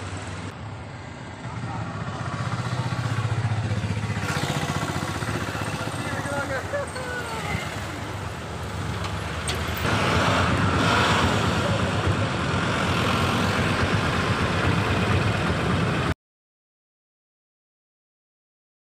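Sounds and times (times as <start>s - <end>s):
motorcycle passing: 1.0s - 16.1s.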